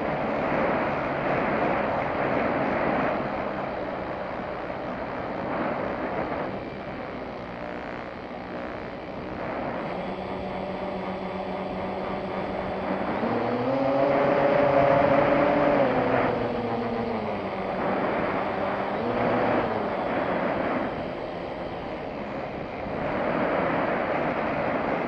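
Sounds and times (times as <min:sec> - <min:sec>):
model airplane motor buzzing: 0:00.0 - 0:25.0
wind rush on microphone: 0:00.0 - 0:25.0.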